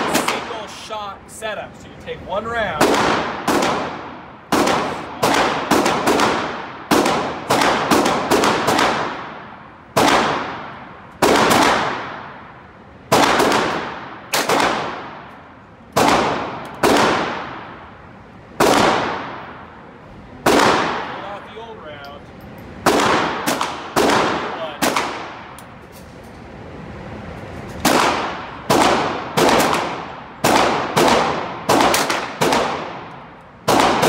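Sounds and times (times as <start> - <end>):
echoing indoor gunshots: 0.0 - 0.8, 2.6 - 21.7, 22.8 - 25.7, 27.8 - 34.0.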